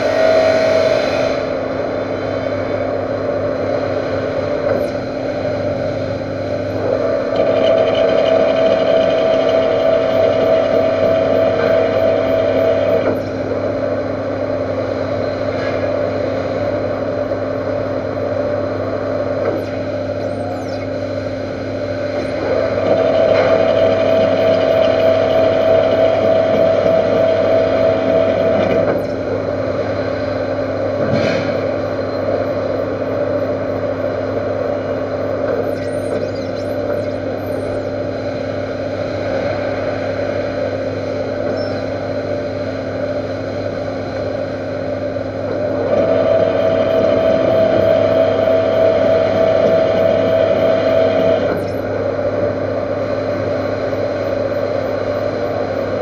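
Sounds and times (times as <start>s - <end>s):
lathe humming: 0.0s - 56.0s.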